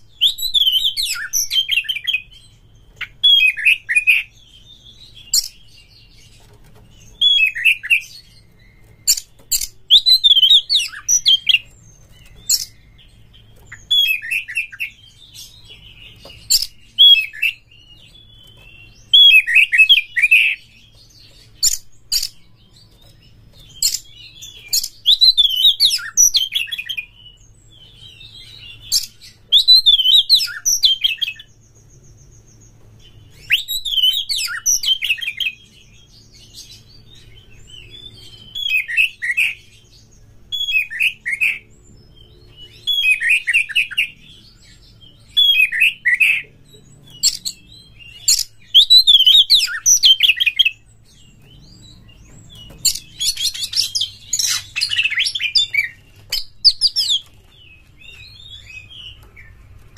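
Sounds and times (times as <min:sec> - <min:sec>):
bird singing: 0:00.0 - 0:59.9.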